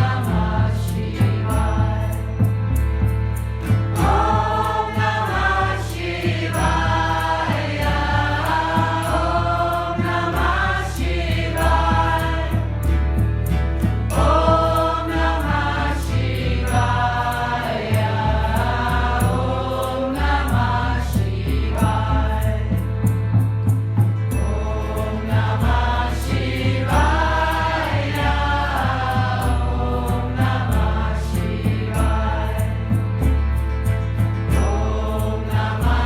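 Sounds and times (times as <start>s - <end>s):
voices chanting a mantra: 0.0s - 2.5s, 4.0s - 13.0s, 14.1s - 23.1s, 24.3s - 33.4s, 34.5s - 36.0s
light percussion: 0.0s - 36.0s
steady bass line: 0.0s - 36.0s.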